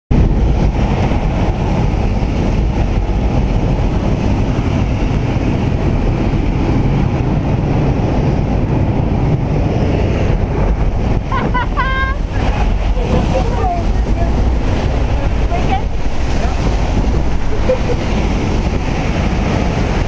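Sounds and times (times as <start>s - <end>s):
turboprop engine noise: 0.1s - 20.0s
wind rushing: 0.1s - 20.0s.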